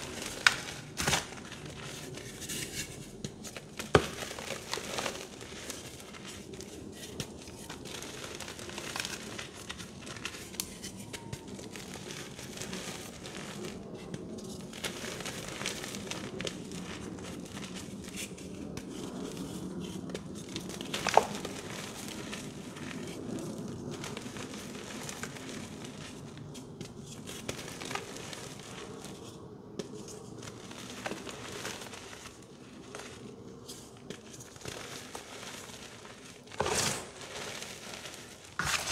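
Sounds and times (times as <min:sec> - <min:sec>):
hands crumbling chalk: 0:00.0 - 0:23.3, 0:23.9 - 0:38.9.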